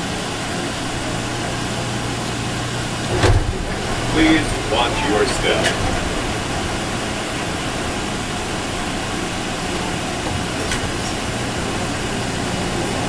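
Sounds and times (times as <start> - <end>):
train car hum and hiss: 0.0 - 13.0.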